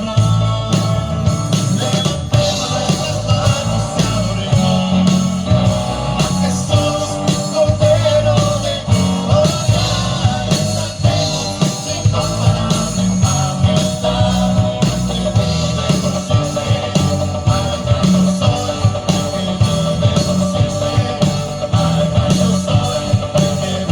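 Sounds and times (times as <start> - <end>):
bass guitar: 0.0 - 23.9
electric guitar: 0.0 - 23.9
person singing: 0.0 - 23.9
rock music: 0.0 - 23.9
steady drum beat: 0.0 - 23.9.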